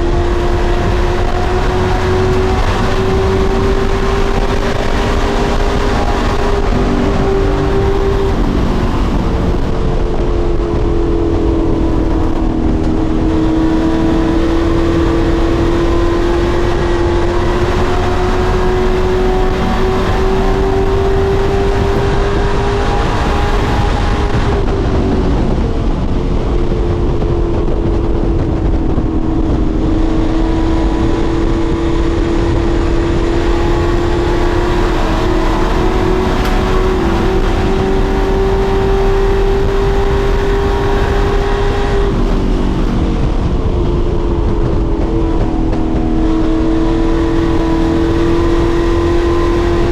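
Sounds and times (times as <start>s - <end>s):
race truck engine running hard: 0.0s - 49.9s.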